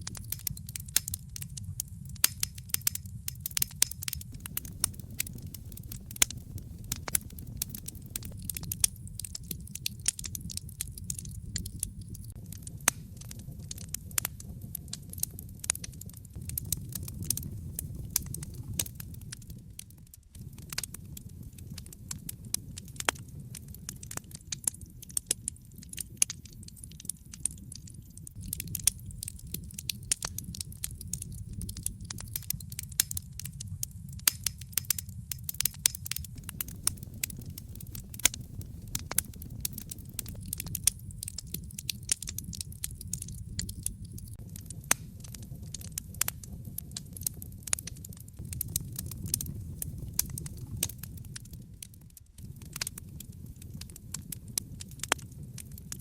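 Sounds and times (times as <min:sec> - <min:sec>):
low rumble of flame: 0:00.0 - 0:56.0
wood fire pops and snaps: 0:00.0 - 0:56.0.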